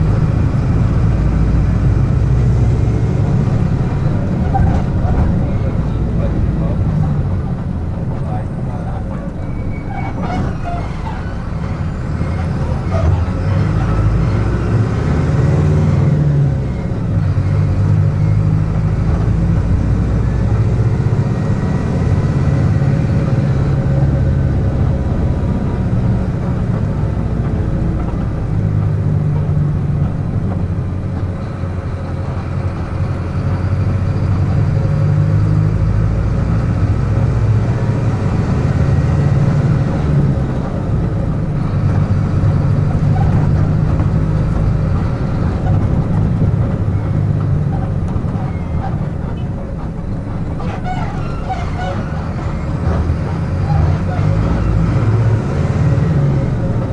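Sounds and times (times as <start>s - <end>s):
bus diesel engine drone: 0.0s - 56.9s.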